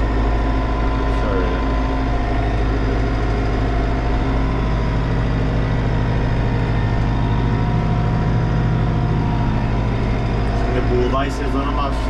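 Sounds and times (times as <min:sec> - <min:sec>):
tractor engine drone from cab: 0:00.0 - 0:12.0.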